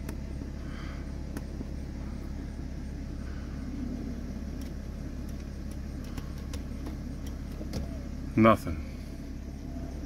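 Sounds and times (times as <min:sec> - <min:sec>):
motorhome engine idling: 0:00.0 - 0:10.0.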